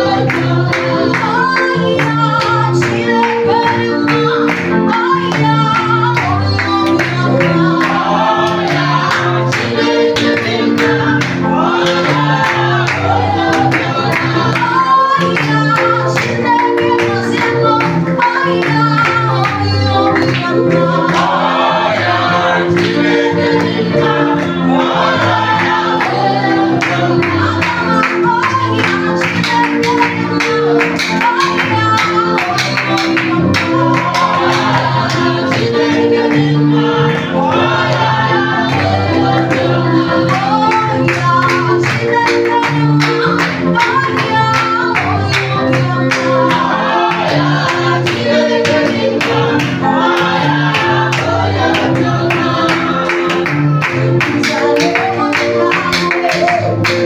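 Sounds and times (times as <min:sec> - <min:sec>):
group of singers: 0:00.0 - 0:57.0.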